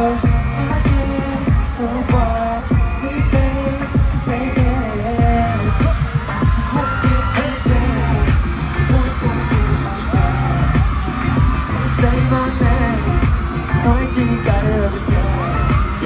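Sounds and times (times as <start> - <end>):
man singing live: 0.0 - 16.0
pop backing track with bass: 0.0 - 16.0.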